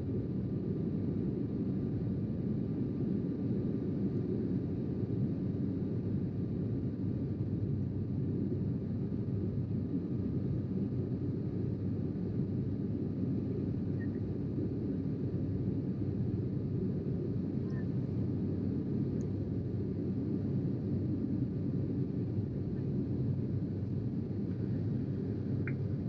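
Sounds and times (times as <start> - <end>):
faint steady whine: 0.0 - 26.0
airliner cabin rumble: 3.7 - 26.0.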